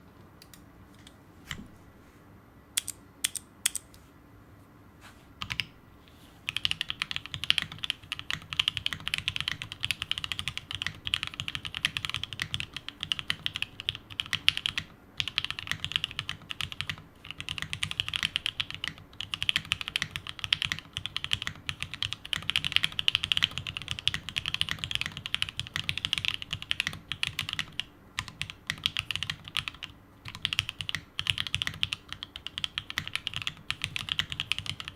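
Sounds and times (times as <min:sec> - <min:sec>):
mechanical keyboard typing: 0:02.8 - 0:03.9, 0:06.5 - 0:34.9.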